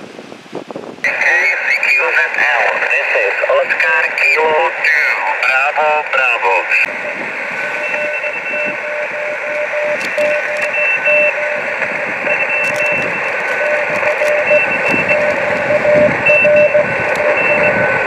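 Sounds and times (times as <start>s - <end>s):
radio receiver hiss: 1.0s - 18.0s
morse code tones: 1.1s - 18.0s.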